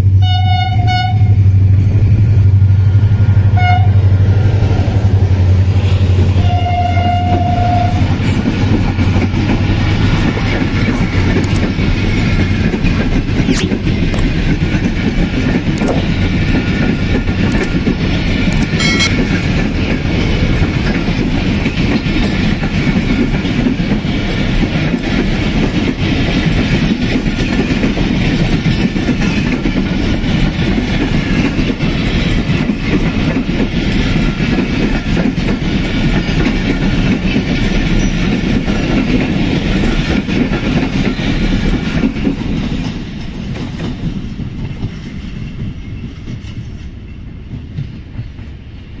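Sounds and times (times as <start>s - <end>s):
train coaches rolling past: 0.0s - 49.0s.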